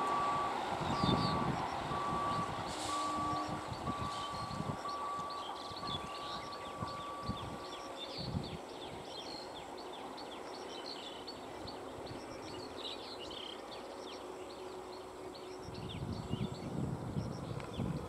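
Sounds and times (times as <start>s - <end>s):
birds chirping: 3.2s - 18.0s.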